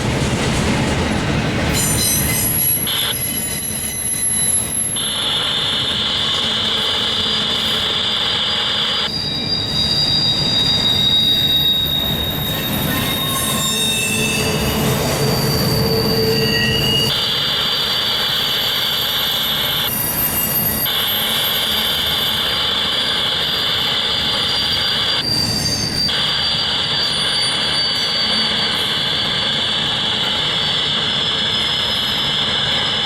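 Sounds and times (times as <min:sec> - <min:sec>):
train cars rumbling: 0:00.0 - 0:33.0
high-pitched wheel squeal: 0:01.8 - 0:33.0.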